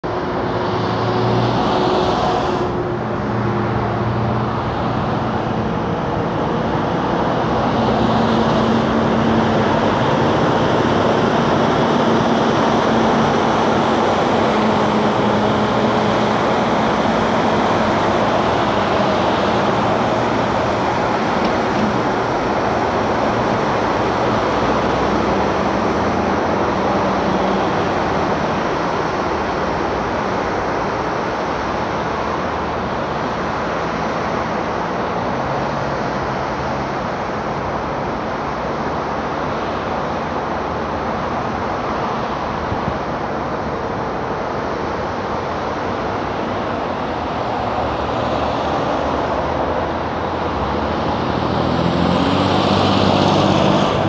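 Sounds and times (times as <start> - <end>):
diesel truck engine hum: 0.0 - 54.0
highway traffic passing: 0.0 - 54.0.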